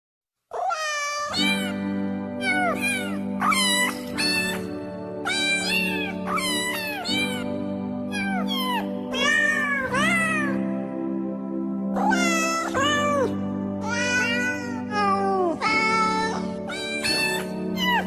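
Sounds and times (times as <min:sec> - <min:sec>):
cat meowing: 0:00.5 - 0:01.8, 0:02.4 - 0:07.5, 0:08.1 - 0:10.6, 0:12.0 - 0:18.0
background music low notes: 0:01.2 - 0:18.0.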